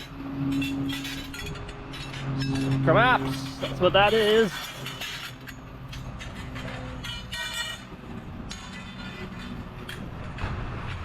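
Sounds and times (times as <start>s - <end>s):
scrap metal ringing: 0.0s - 10.0s
engine running: 0.0s - 11.0s.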